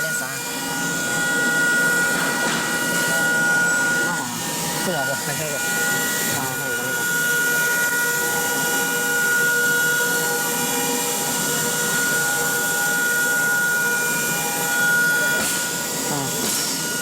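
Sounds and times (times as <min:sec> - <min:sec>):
cnc machine high whine: 0:00.0 - 0:17.0.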